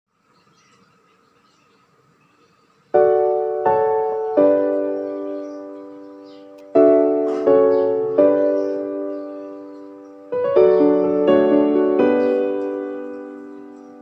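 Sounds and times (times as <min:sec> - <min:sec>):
piano chords ringing: 0:02.7 - 0:14.0.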